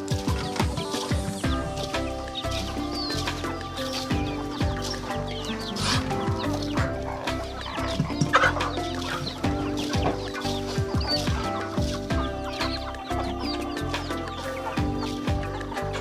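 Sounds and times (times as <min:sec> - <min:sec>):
background music with drum hits: 0:00.0 - 0:16.0
chickens clucking: 0:00.0 - 0:16.0
chicken squawk: 0:02.4 - 0:16.0.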